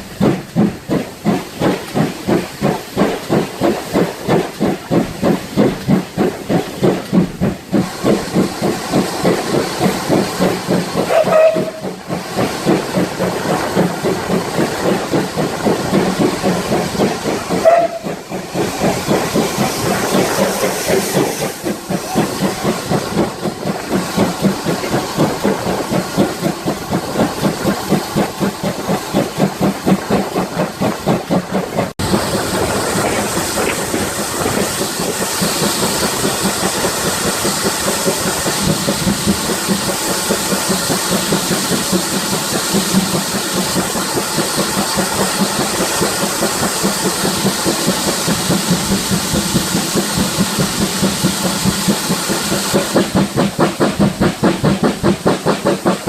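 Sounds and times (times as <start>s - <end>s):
steam hissing: 0.0s - 56.0s
steam locomotive chuffing: 0.0s - 56.0s.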